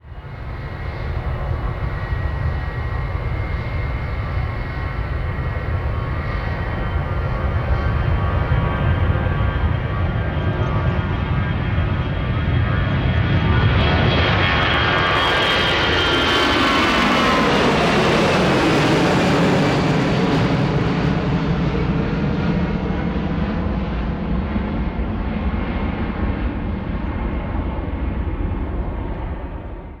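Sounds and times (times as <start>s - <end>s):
jet engine whine: 0.0s - 30.0s
jet engines rumbling: 0.0s - 30.0s.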